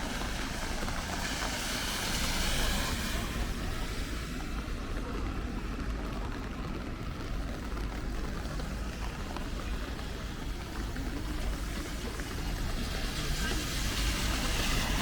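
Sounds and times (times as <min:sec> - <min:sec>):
rain hiss: 0:00.0 - 0:15.0
traffic rumble: 0:00.0 - 0:15.0.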